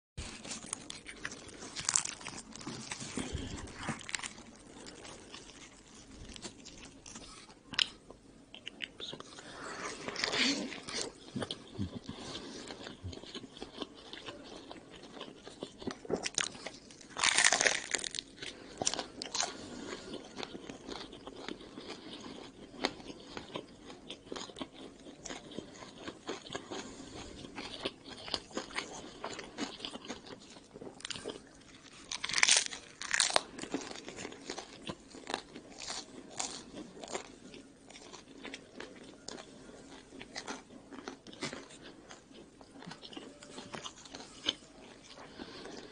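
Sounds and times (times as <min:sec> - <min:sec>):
person chewing crusty food: 0:00.2 - 0:45.9.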